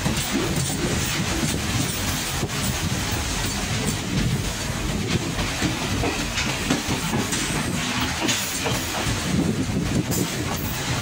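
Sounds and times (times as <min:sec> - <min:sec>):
train carriage rumble and rattle: 0:00.0 - 0:11.0.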